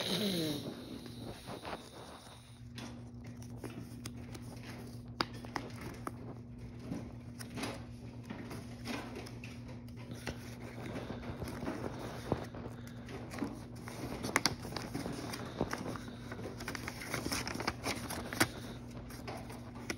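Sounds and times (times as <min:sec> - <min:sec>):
steady low hum: 0:00.0 - 0:19.9
paper crinkling and tapping: 0:00.9 - 0:19.9.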